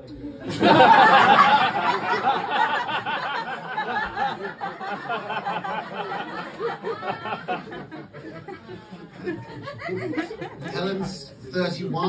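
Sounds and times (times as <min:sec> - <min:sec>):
audience laughing: 0:00.4 - 0:11.4.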